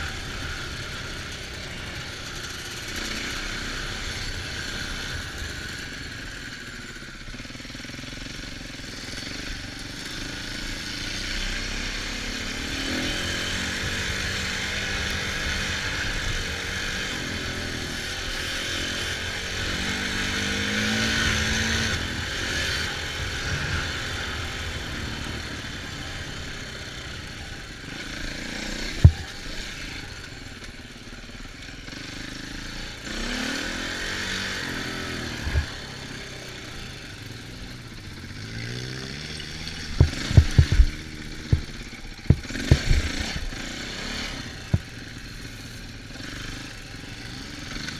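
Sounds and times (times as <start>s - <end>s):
off-road engines revving: 0.0s - 47.9s.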